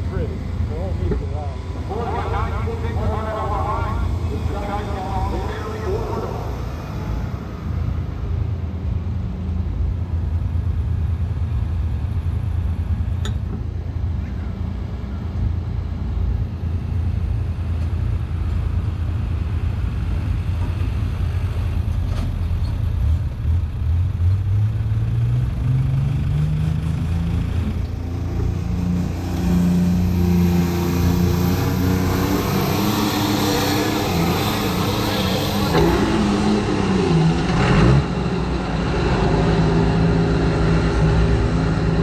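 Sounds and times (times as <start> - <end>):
tractor diesel engine running: 0.0 - 36.8.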